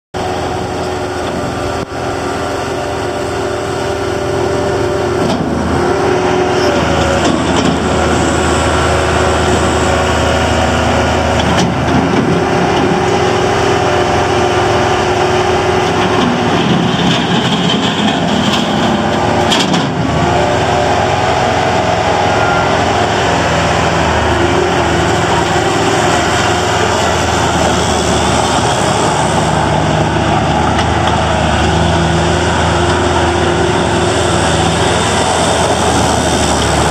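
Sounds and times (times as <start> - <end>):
loader engine revving: 0.2 - 36.9.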